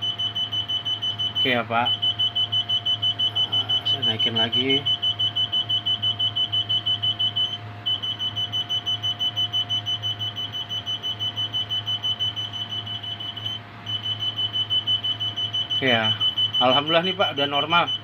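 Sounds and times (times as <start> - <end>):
rapid high-pitched electronic beeping: 0.0 - 18.0.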